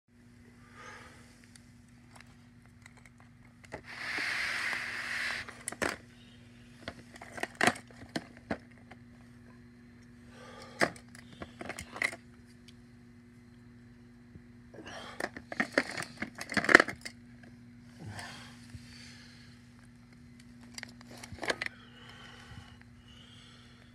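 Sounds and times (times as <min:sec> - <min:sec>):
faint steady hum: 0:00.1 - 0:23.9.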